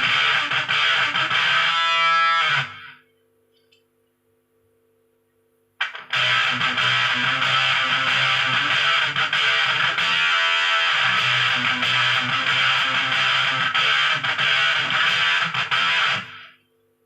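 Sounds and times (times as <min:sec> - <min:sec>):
fuzzed electric guitar riff: 0:00.0 - 0:03.0, 0:05.8 - 0:16.6.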